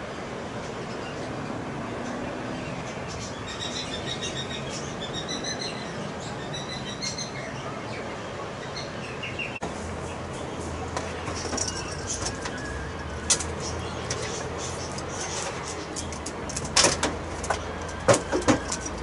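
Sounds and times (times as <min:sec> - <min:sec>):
small birds chirping: 0:00.6 - 0:18.0.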